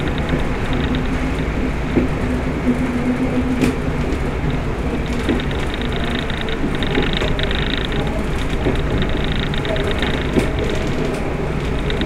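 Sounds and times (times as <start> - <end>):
railcar engine and wheels rumbling: 0.0 - 12.0.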